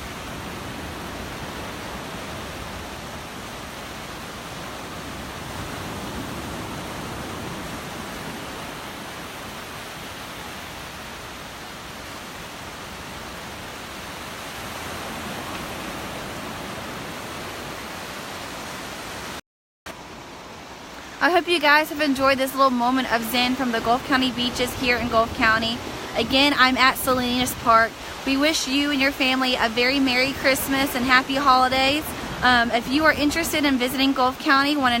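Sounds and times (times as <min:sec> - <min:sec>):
surf rushing on beach: 0:00.0 - 0:35.0.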